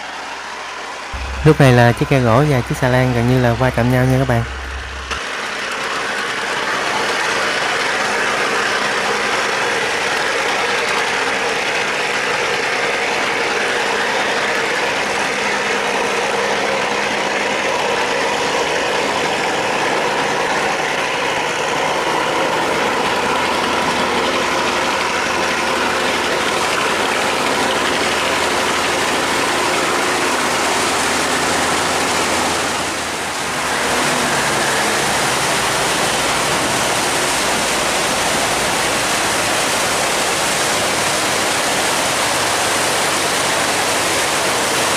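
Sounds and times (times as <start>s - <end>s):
boat engines running: 0.0s - 44.9s.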